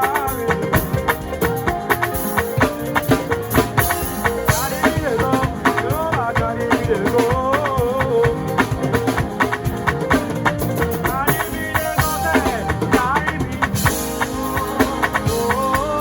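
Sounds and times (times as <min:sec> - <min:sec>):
drum beat: 0:00.0 - 0:16.0
held chords: 0:00.0 - 0:16.0
shaker percussion: 0:00.0 - 0:16.0
sliding melodic line: 0:00.0 - 0:16.0.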